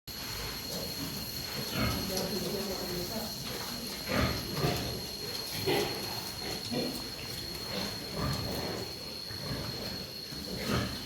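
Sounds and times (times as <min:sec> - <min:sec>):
pigs grunting: 0:00.3 - 0:11.0.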